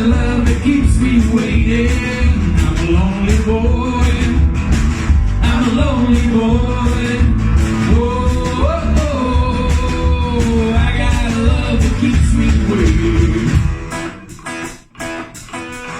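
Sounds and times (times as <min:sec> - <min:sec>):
drum box steady beat: 0:00.0 - 0:15.9.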